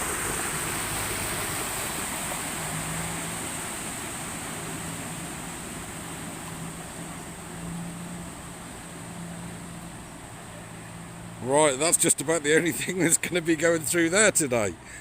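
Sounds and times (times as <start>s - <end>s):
vehicle engine running low: 0.0s - 15.0s
water rushing: 0.0s - 15.0s.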